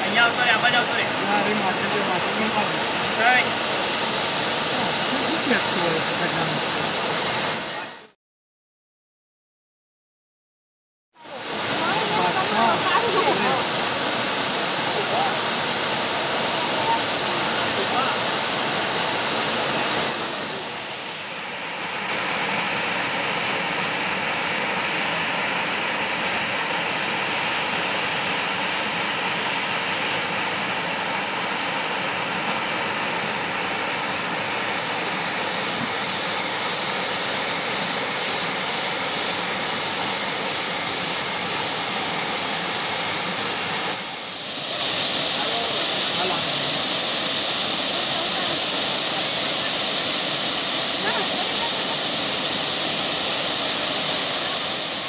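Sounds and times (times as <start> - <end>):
waterfall rushing into pool: 0.0 - 8.2, 11.2 - 55.0.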